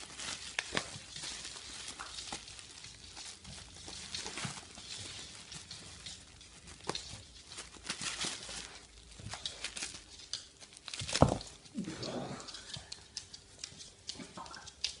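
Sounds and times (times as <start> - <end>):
plastic crinkling under paws: 0.0 - 15.0.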